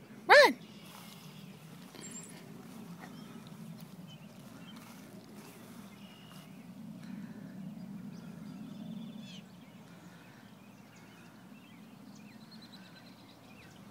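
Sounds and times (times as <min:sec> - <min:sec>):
wild birds calling: 0:00.0 - 0:13.9.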